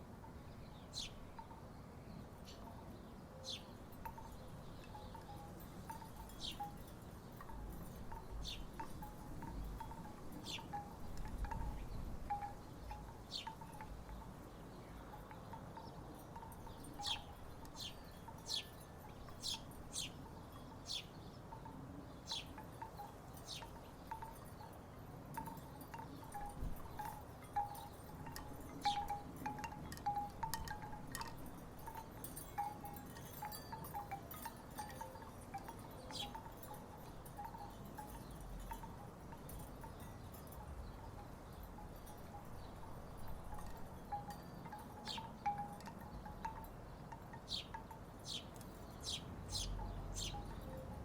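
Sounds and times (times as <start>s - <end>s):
wooden wind chimes clonking: 3.5s - 51.0s.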